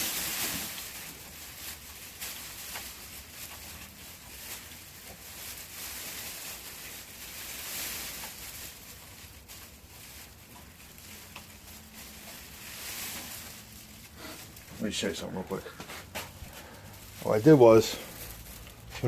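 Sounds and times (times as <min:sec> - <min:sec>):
foil blanket rustling and crinkling: 0:00.0 - 0:19.0.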